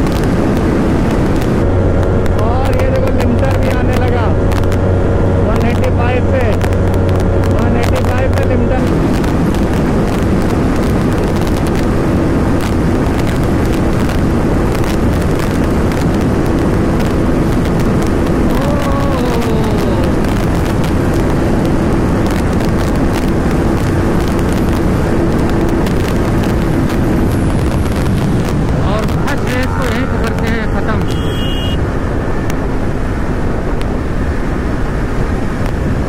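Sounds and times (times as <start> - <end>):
motorcycle engine running: 0.0 - 35.9
wind rush on microphone: 0.0 - 36.0.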